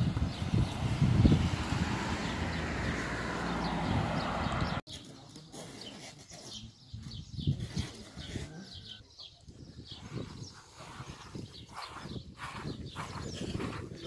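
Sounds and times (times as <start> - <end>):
wind noise on microphone: 0.0 - 4.8, 6.4 - 14.0
small birds chirping: 0.1 - 14.0.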